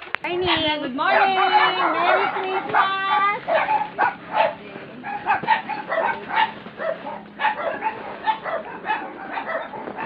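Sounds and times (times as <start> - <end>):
dog barking: 1.1 - 10.0.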